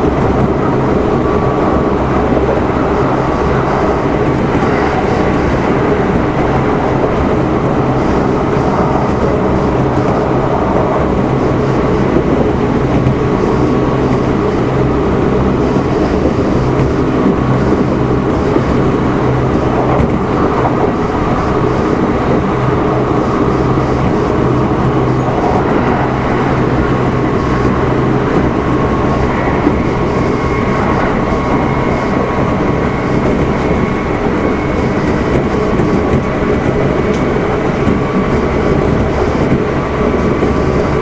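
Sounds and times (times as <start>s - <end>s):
train running on rails: 0.0s - 41.0s.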